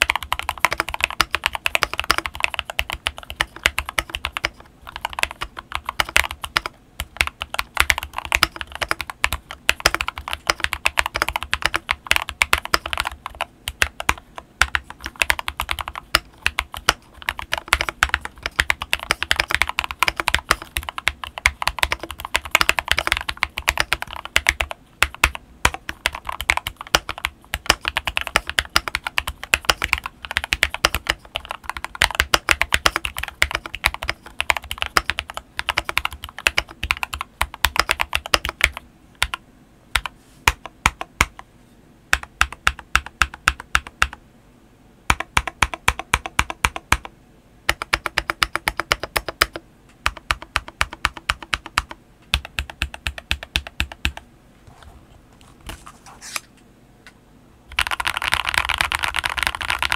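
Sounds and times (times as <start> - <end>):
mechanical keyboard typing: 0.0 - 39.4, 40.0 - 41.4, 42.1 - 44.2, 45.1 - 47.1, 47.7 - 54.3, 57.7 - 59.9.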